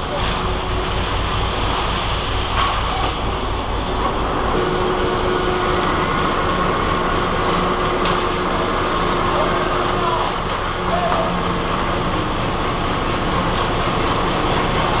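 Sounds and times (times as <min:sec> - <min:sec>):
low rumble of engines and machinery: 0:00.0 - 0:15.0.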